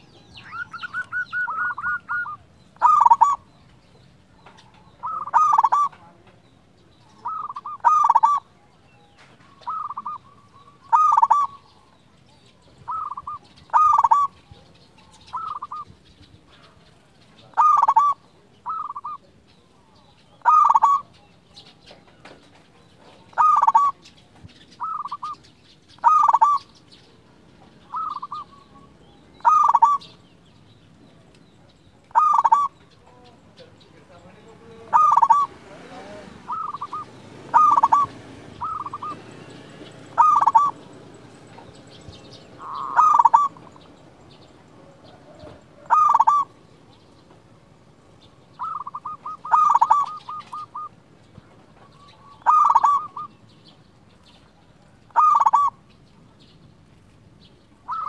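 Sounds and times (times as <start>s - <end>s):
dove cooing: 0.0s - 15.9s, 16.5s - 26.9s, 27.7s - 30.3s, 32.0s - 53.8s, 54.5s - 55.9s, 57.8s - 58.0s.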